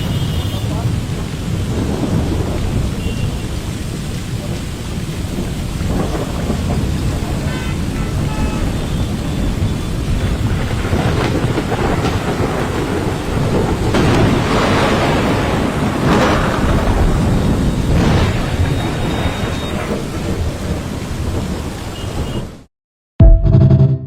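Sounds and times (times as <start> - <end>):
heavy rain pouring: 0.0 - 22.7.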